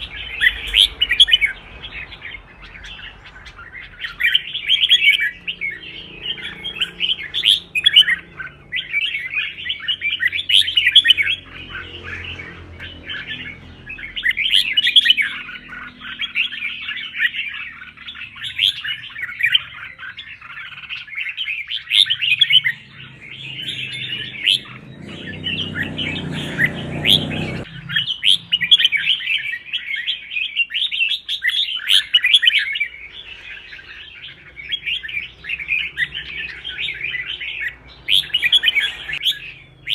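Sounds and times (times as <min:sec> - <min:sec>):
bulbul singing whistled phrases: 0:00.0 - 0:39.9.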